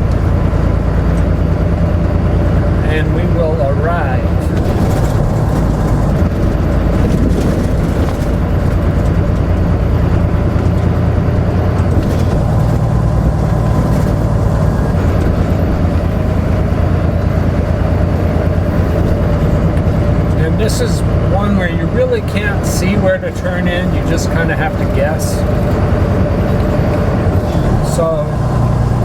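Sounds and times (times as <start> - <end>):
road noise: 0.0 - 29.0
truck diesel engine running: 0.0 - 29.0.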